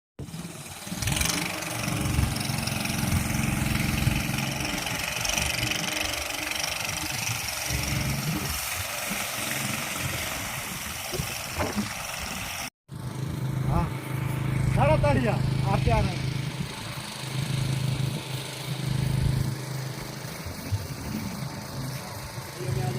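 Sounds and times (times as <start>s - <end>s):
noisy rattle: 0.2s - 22.9s
small engine running: 0.2s - 22.9s.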